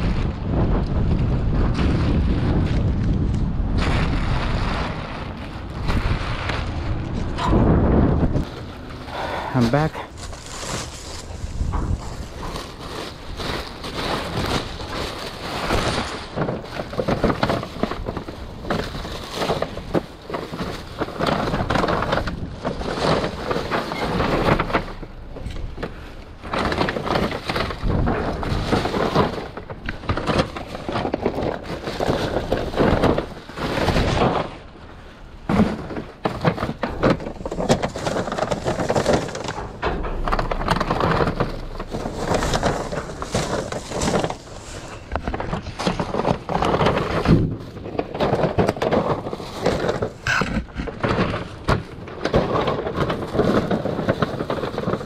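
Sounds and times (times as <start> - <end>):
plastic bags rustling: 0.0 - 55.0.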